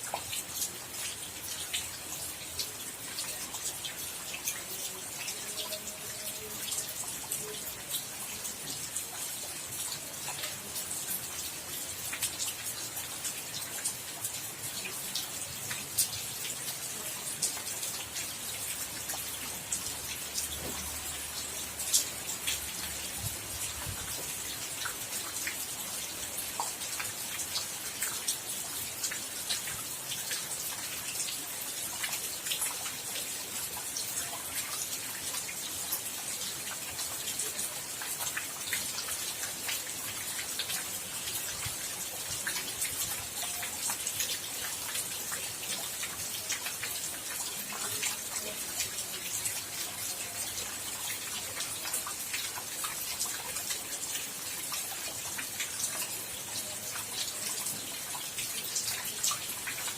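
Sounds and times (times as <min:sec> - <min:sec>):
raindrops ticking on hard surface: 0:00.0 - 0:59.9.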